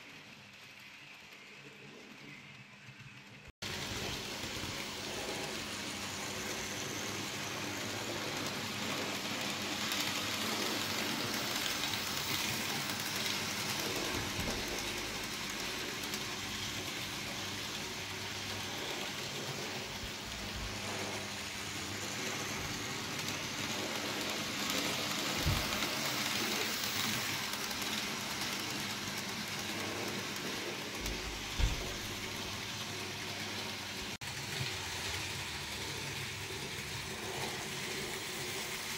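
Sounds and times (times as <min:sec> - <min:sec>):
model train motor whirring: 0:00.1 - 0:38.9.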